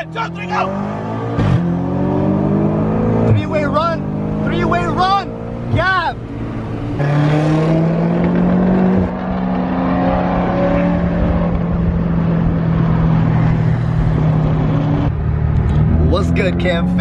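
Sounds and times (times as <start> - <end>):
car engine at full throttle: 0.0 - 17.0
road noise: 0.0 - 17.0.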